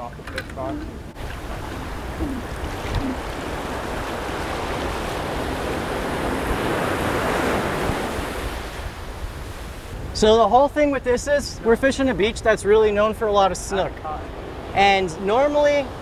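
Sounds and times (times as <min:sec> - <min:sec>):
ocean surf breaking: 0:00.6 - 0:16.0.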